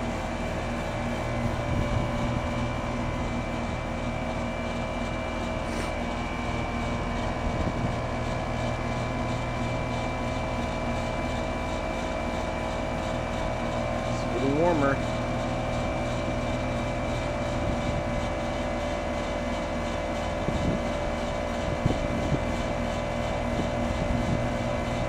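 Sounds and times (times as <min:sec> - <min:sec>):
heat pump humming: 0:00.0 - 0:25.0.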